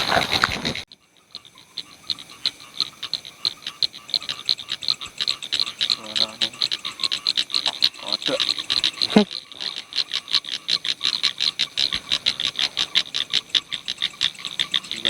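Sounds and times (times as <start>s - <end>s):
frogs calling: 0.0s - 15.0s
low frog croak: 0.0s - 15.0s.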